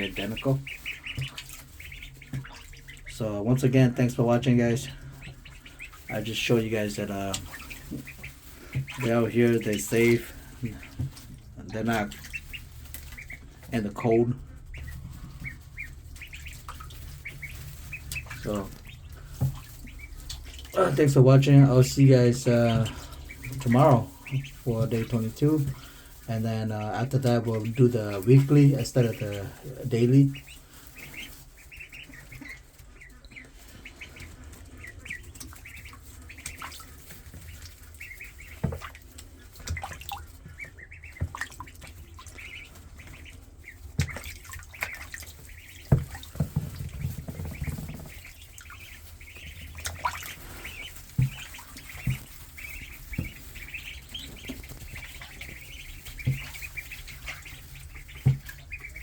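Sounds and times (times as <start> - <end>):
ducklings peeping: 0.0 - 59.0.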